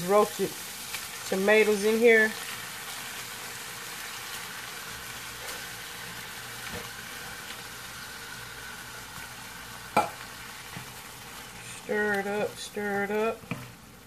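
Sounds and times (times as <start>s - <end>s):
meat sizzling in a skillet: 0.0s - 14.0s.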